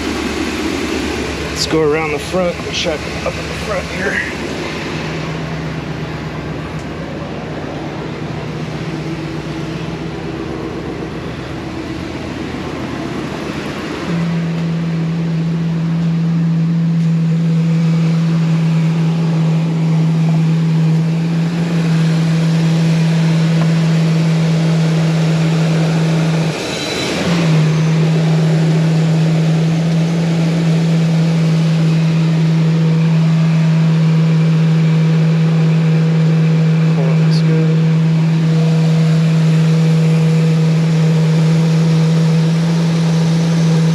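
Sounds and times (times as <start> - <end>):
loud steady hum: 0.0 - 43.9
van engine idling: 0.0 - 43.9.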